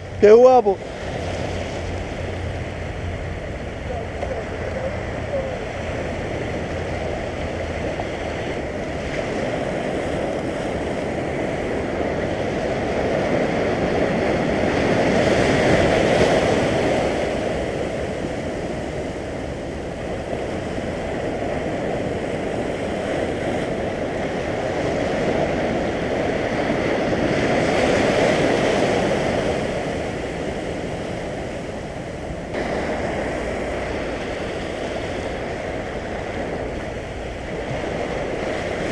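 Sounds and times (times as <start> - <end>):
sea waves breaking on rocks: 0.1 - 38.9.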